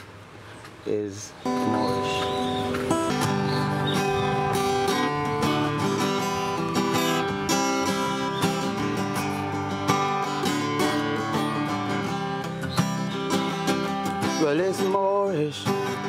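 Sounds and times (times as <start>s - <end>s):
acoustic guitar strumming chords: 1.4s - 16.0s.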